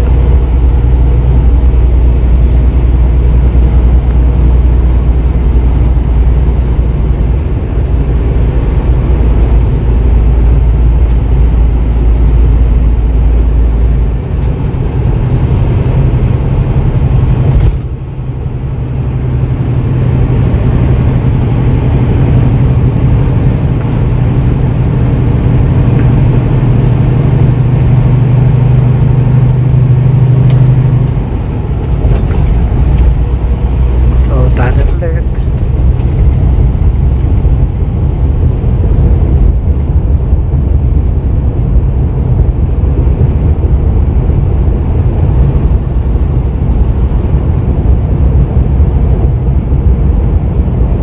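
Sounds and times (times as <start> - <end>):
truck engine drone: 0.0 - 51.0
tyre and road noise: 0.0 - 51.0.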